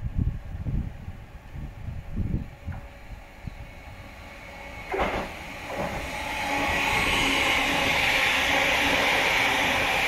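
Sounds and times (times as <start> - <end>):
train wheels rushing on rail: 0.4 - 10.0.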